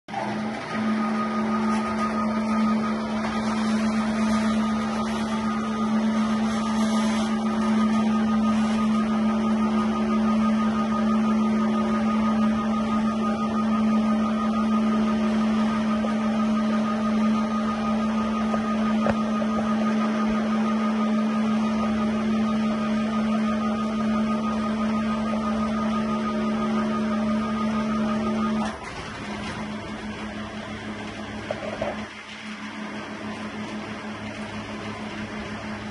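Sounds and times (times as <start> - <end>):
ladder hoist drive humming: 0.1 - 35.9.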